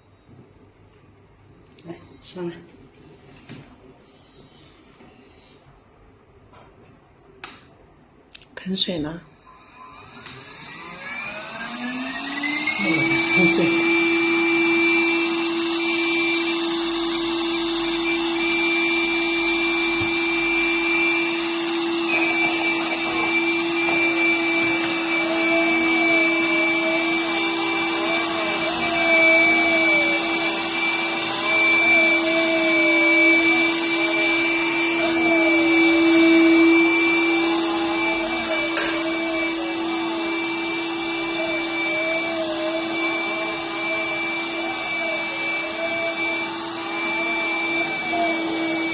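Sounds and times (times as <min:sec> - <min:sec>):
window cleaning robot humming: 0:09.4 - 0:48.9.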